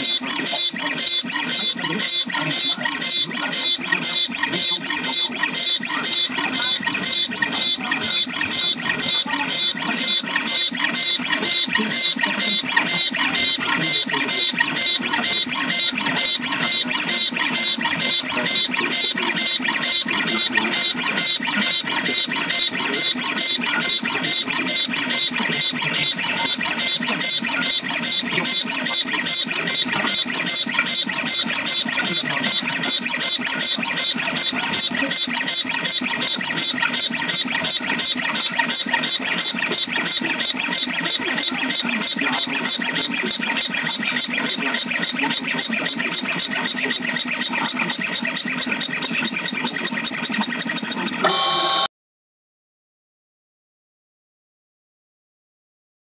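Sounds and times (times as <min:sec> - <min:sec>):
engraving machine whining: 0:00.0 - 0:51.9.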